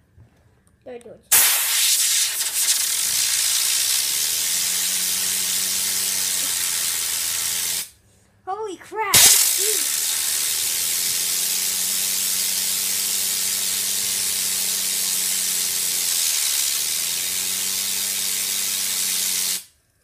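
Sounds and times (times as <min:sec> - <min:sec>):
compressed air hissing: 0:01.3 - 0:08.0, 0:09.2 - 0:19.7.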